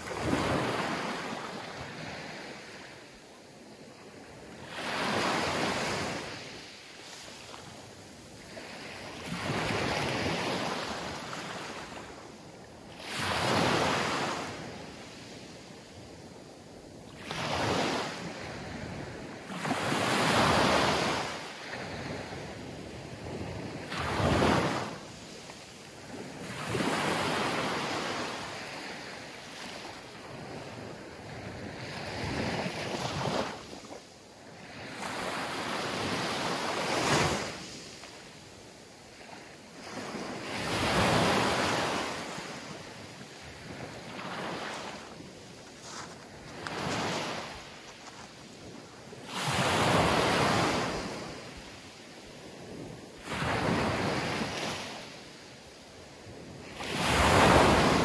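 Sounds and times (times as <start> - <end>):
waves washing up a beach: 0.0 - 58.0.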